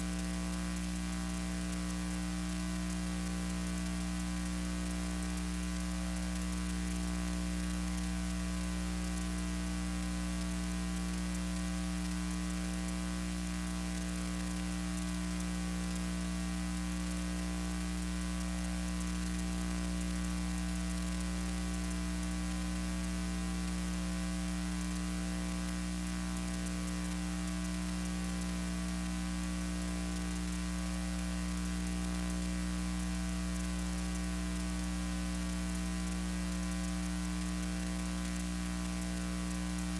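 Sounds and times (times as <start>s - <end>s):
electrical mains hum with hiss: 0.0s - 39.9s.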